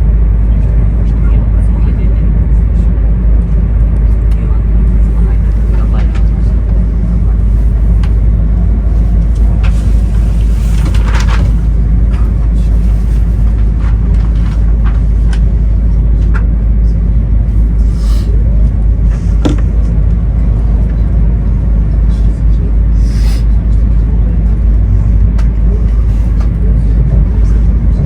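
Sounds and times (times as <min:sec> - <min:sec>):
train cabin low rumble: 0:00.0 - 0:28.0.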